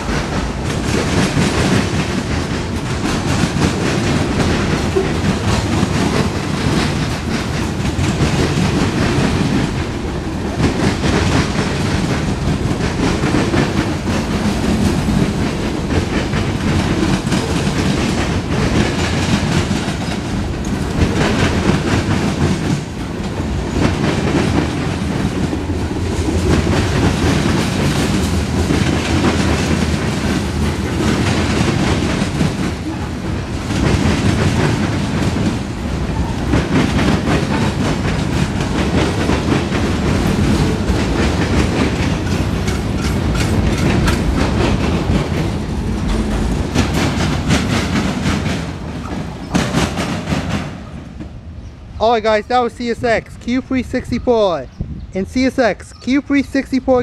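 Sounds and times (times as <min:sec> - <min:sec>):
wheels clicking over rail joints: 0:00.0 - 0:52.0
freight train rumbling past: 0:00.0 - 0:57.0.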